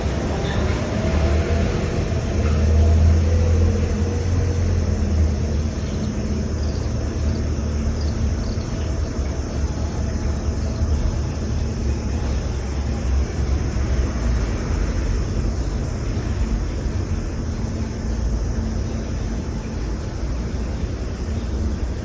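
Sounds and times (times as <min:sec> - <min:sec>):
passing vehicle engine rumble: 0:00.0 - 0:22.0.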